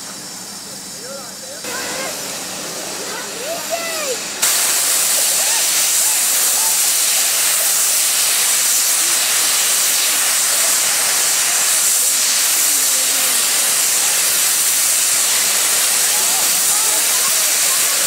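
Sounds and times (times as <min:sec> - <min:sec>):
steam hissing from safety valves: 0:00.0 - 0:18.0.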